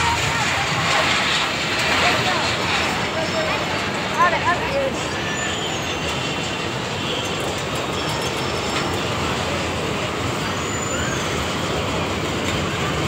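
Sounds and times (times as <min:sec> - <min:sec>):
ride wheels rumbling on rails: 0:00.0 - 0:13.0.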